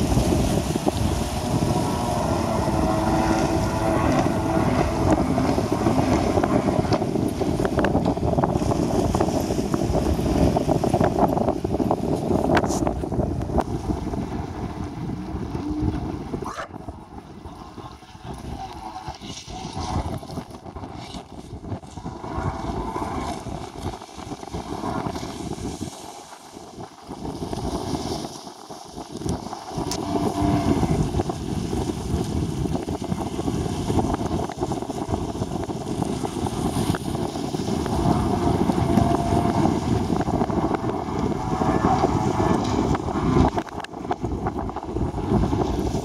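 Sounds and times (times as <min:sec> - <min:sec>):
faint jet ski engine: 0:00.0 - 0:46.0
wind buffeting microphone: 0:00.0 - 0:46.0.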